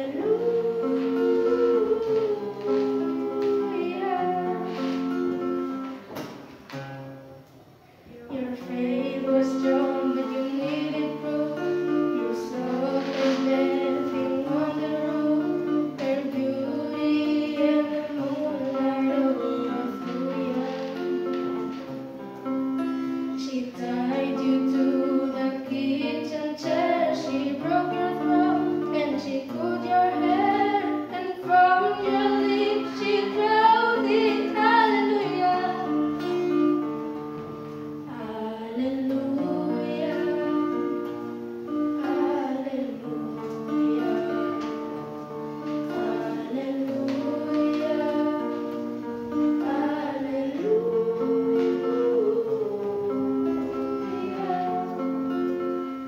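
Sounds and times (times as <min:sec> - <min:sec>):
girl singing into a microphone: 0:00.0 - 0:06.4, 0:08.0 - 0:56.0
electric guitar chords: 0:00.0 - 0:07.8, 0:08.4 - 0:56.0.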